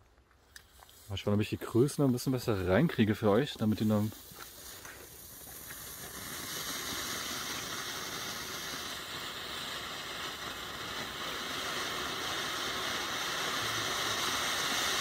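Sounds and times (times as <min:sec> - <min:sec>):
firework fountain hissing: 0:00.6 - 0:15.0.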